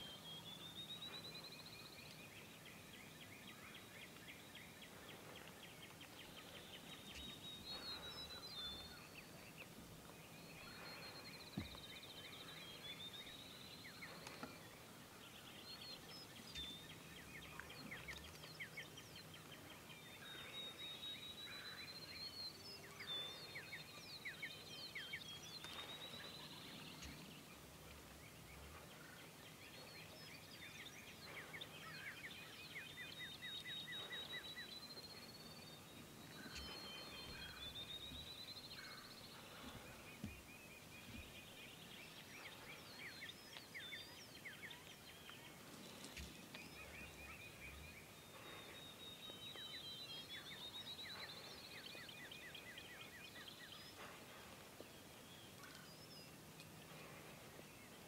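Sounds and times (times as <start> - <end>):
faint outdoor background: 0.0 - 58.0
small birds singing: 0.0 - 58.0.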